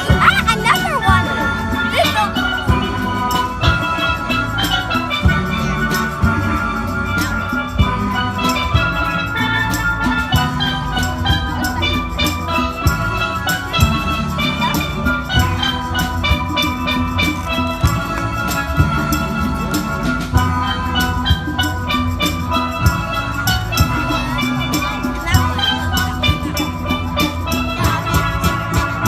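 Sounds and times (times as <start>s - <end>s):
steady drum beat: 0.0s - 29.0s
steel pans playing melody: 0.0s - 29.0s.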